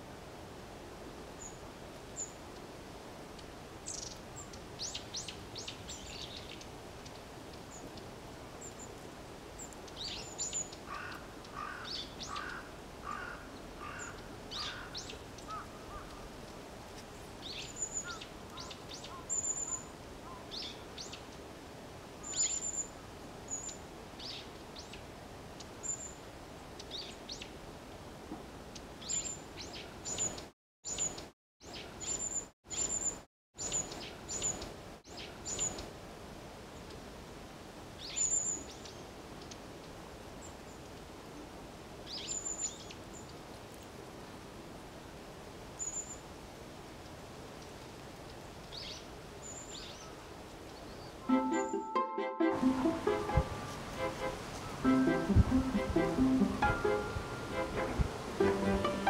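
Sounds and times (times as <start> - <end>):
outdoor background: 0.0 - 59.0.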